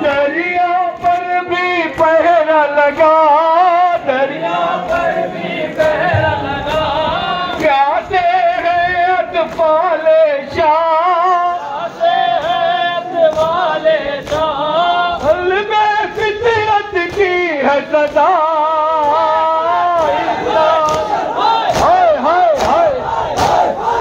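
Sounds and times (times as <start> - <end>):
group of voices singing: 0.0 - 24.0
men singing a lament: 0.0 - 24.0
rhythmic chest-beating slaps: 0.0 - 24.0.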